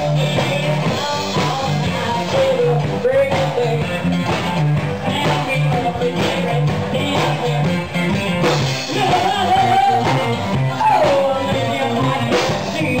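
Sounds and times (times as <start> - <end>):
live blues band playing: 0.0 - 13.0.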